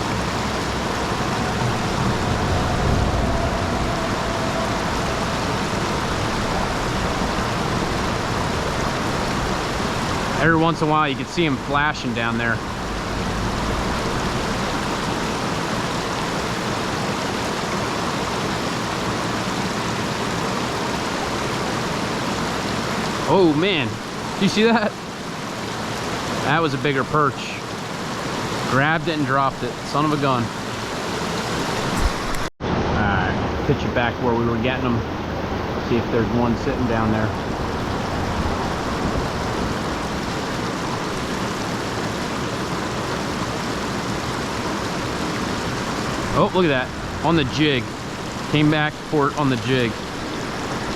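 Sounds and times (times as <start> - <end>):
stream water flowing: 0.0 - 50.9.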